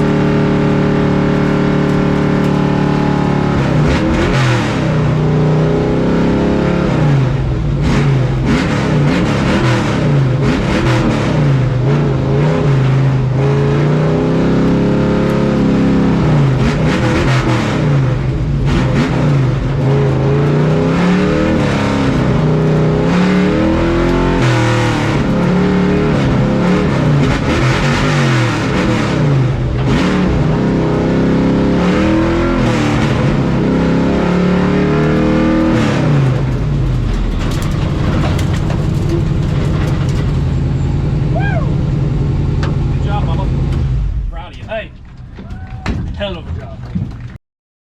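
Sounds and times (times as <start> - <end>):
race truck engine revving: 0.0 - 44.7.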